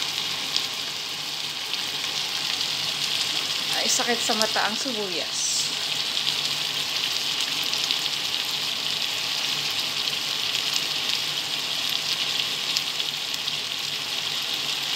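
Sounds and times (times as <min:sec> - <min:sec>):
food sizzling in a pot: 0:00.0 - 0:14.9.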